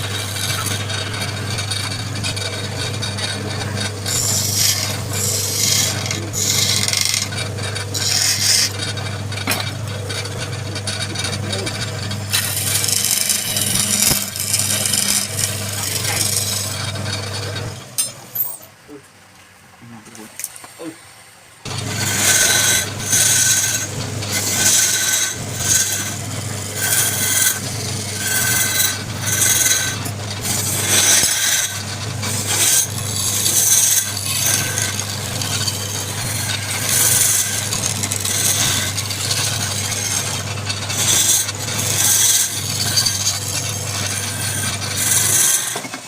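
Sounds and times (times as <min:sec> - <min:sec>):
lathe motor hum: 0:00.0 - 0:18.3, 0:21.6 - 0:46.0
tool scraping spinning wood: 0:00.0 - 0:18.7, 0:21.6 - 0:46.0.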